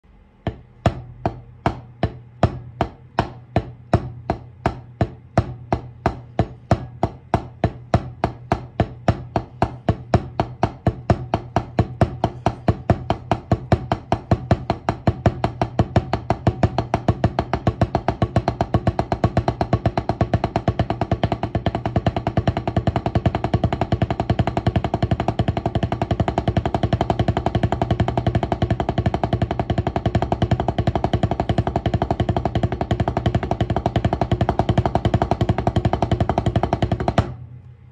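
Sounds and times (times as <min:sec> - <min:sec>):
drumstick on rubber practice pad: 0:00.4 - 0:37.4.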